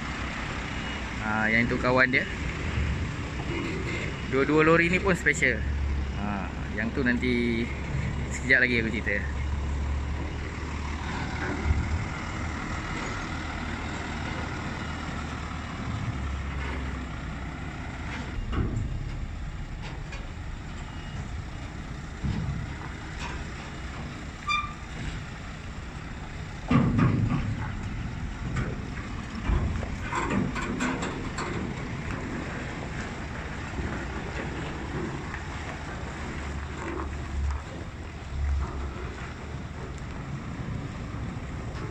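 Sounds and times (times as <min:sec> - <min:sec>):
truck diesel engine running: 0:00.0 - 0:41.9
clunks and rattles: 0:01.8 - 0:41.9.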